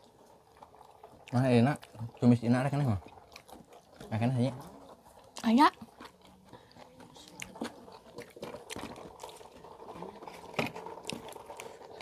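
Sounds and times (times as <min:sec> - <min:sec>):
person chewing and crunching: 0:00.0 - 0:02.2, 0:02.9 - 0:12.0.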